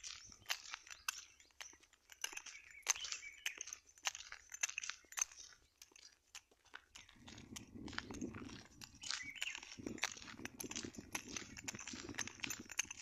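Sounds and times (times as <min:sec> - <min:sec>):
footsteps crunching on dirt: 0:00.0 - 0:13.0.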